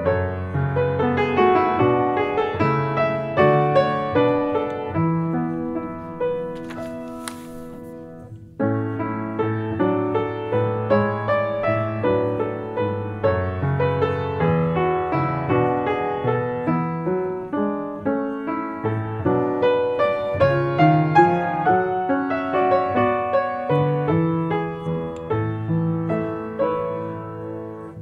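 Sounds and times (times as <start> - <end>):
solo piano piece: 0.0 - 28.0.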